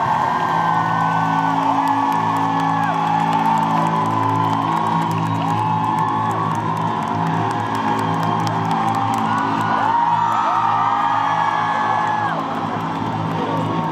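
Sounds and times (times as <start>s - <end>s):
audience whooping: 0.0s - 13.9s.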